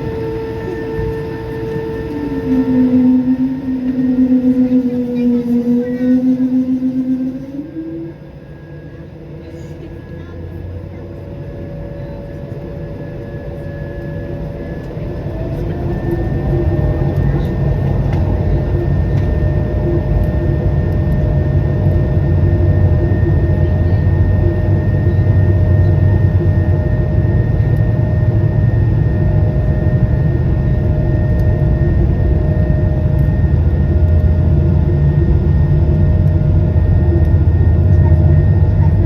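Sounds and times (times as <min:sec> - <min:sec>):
aircraft cabin engine drone: 0:00.0 - 0:39.0
thin steady whine: 0:00.0 - 0:39.0.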